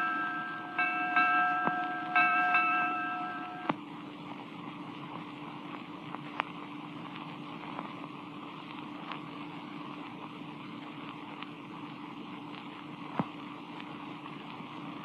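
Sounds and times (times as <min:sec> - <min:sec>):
record surface hiss: 0:00.0 - 0:15.0.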